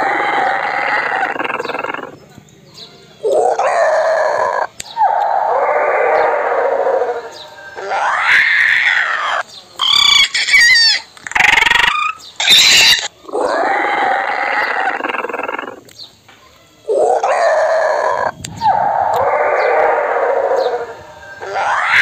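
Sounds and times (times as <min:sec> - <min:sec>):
creature shrieks and squawks: 0:00.0 - 0:02.2, 0:03.3 - 0:15.8, 0:16.9 - 0:22.0.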